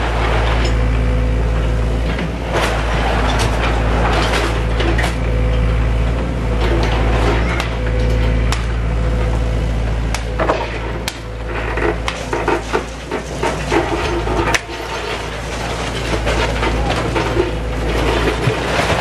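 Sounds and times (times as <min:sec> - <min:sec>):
clattering timber and debris: 0:00.0 - 0:09.5, 0:10.1 - 0:19.0
diesel engine running: 0:00.0 - 0:19.0.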